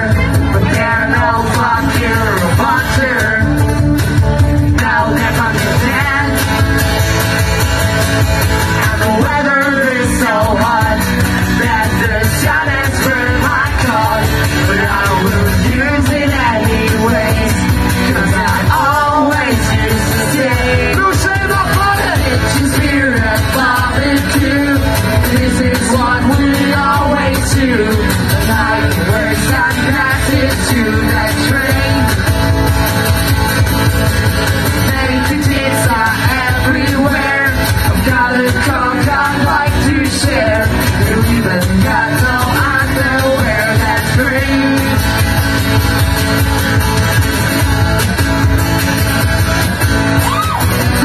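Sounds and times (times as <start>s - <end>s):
person singing: 0.0s - 33.2s, 34.5s - 45.8s
live rock band playing: 0.0s - 51.0s.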